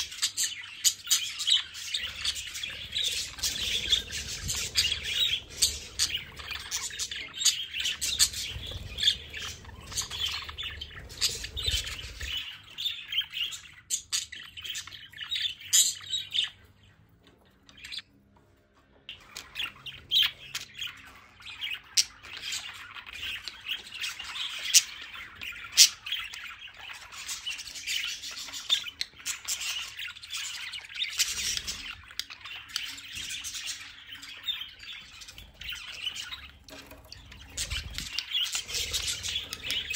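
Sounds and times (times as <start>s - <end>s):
budgerigars chattering: 0.0s - 16.6s, 19.2s - 39.9s.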